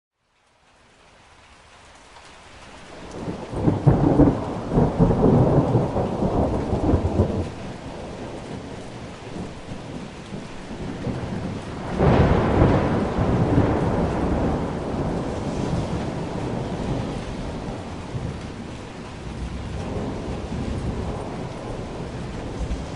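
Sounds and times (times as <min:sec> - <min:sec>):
steady rain: 0:00.1 - 0:22.9
thunder rumbling: 0:02.9 - 0:22.9.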